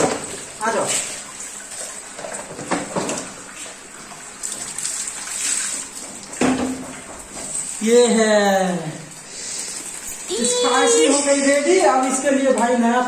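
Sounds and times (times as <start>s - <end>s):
water splashing on tiled floor: 0.0s - 12.9s.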